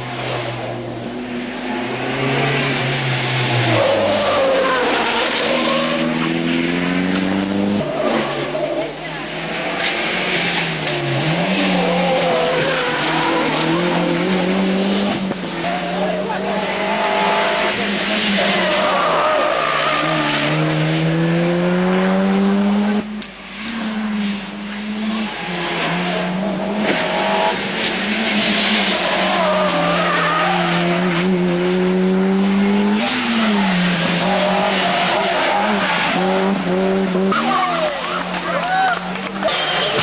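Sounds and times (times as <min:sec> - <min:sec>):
rally car engine accelerating: 0:00.0 - 0:40.0.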